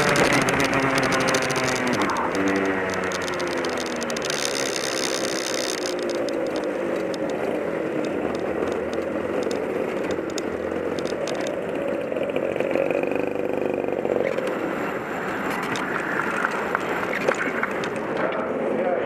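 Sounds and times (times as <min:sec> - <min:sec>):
kart rattling and ticking: 0:00.0 - 0:18.4
kart engine running at low revs: 0:00.0 - 0:19.0.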